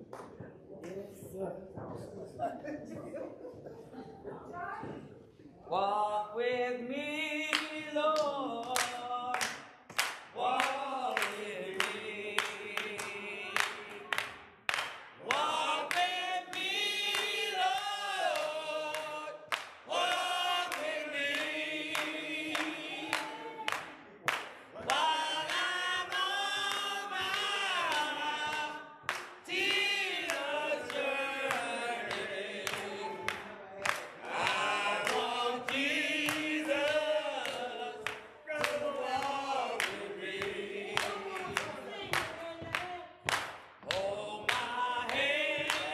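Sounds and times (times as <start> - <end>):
handclaps keeping a beat: 0.0 - 2.0, 7.4 - 45.9
group singing unaccompanied: 5.7 - 45.9.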